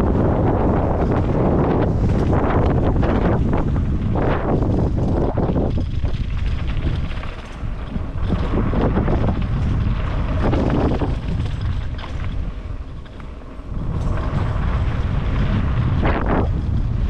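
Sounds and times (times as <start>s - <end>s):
steady low rumble: 0.0s - 17.0s
wind buffeting microphone: 0.0s - 17.0s.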